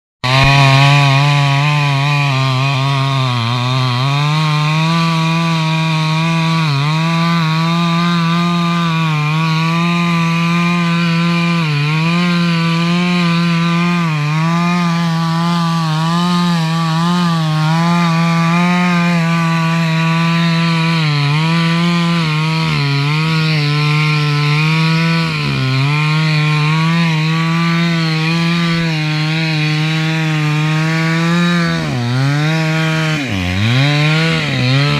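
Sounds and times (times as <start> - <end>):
chainsaw cutting wood: 0.2 - 34.9.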